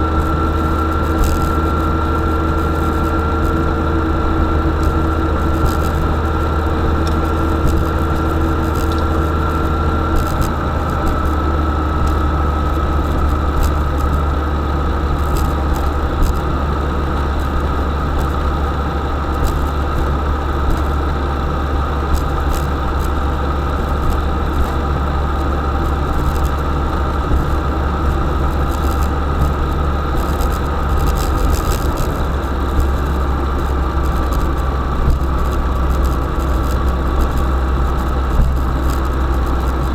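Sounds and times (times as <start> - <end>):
high steady whine: 0.0 - 39.9
van engine drone: 0.0 - 39.9.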